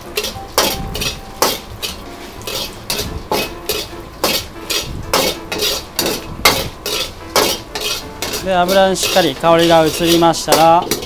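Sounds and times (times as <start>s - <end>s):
metal ladle scraping a wok: 0.0s - 11.0s.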